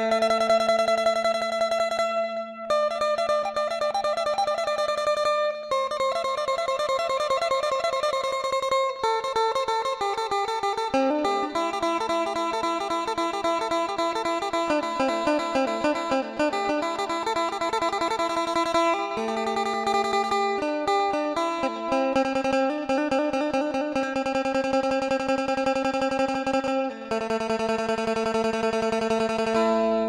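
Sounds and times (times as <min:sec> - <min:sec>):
lute picked melody with drone: 0:00.0 - 0:30.0.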